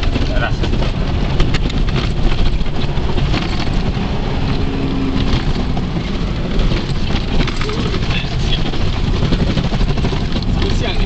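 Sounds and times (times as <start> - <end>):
rattles and knocks in car cabin: 0.0 - 11.0
vehicle engine and tyres: 0.0 - 11.0.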